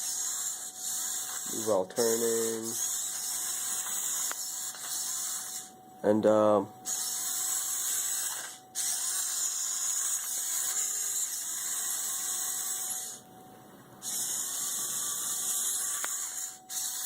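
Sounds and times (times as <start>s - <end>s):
servo motors whining: 0.0s - 17.0s.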